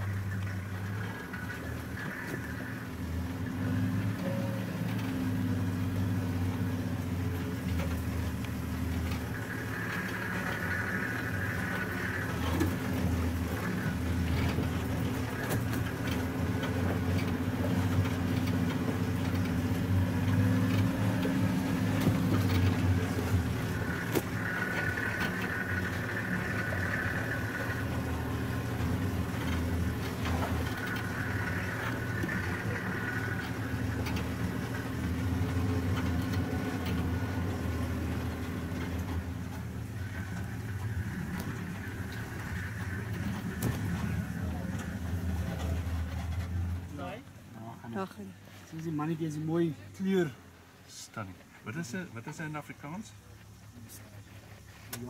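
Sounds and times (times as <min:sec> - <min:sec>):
knocks and rattles: 0:00.0 - 0:47.0
vehicle engine running: 0:00.0 - 0:55.0.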